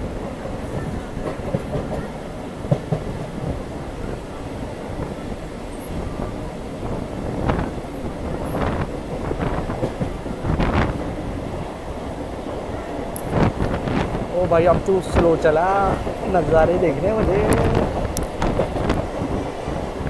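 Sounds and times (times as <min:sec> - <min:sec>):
train wheels rumbling on rails: 0:00.0 - 0:20.0
sharp train clacks: 0:00.4 - 0:04.2, 0:04.9 - 0:20.0.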